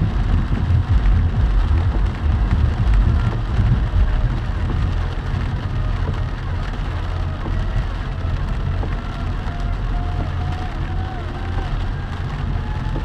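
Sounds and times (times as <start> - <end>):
engine and road rumble: 0.0 - 13.0
heavy rain on a car: 0.0 - 13.0.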